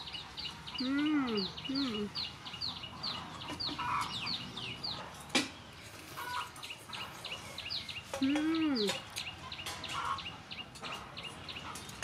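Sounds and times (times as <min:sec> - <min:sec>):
small birds chirping: 0:00.0 - 0:12.0
chickens clucking: 0:00.1 - 0:12.0.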